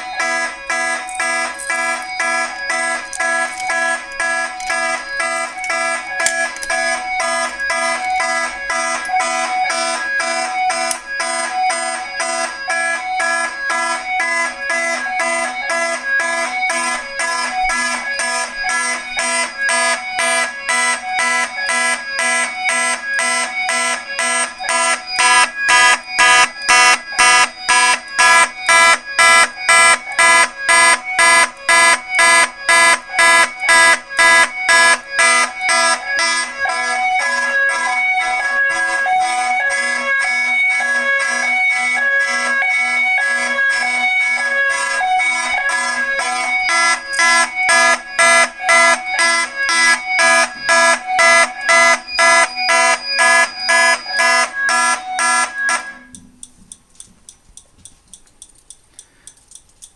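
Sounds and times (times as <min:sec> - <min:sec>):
fire alarm horns blasting: 0:00.0 - 0:56.5.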